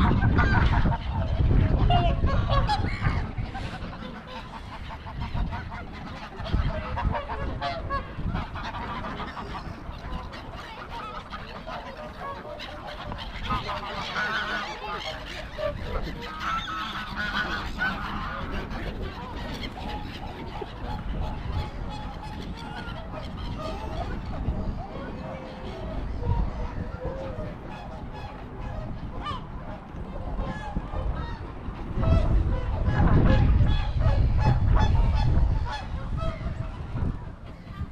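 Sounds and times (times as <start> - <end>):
geese honking: 0.0 - 37.9
wind rumble on microphone: 0.0 - 37.9.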